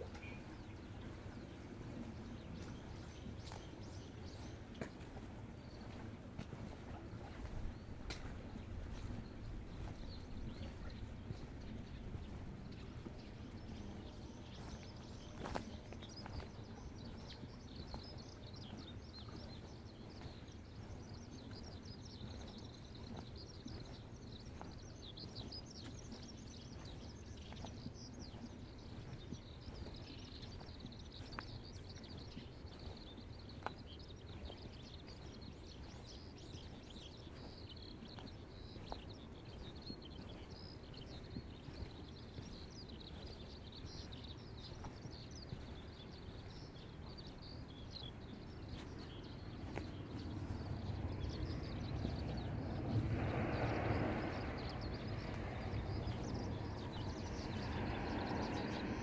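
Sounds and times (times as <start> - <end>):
faint footstep clicks: 0.0 - 59.0
water flowing in a canal: 0.0 - 59.0.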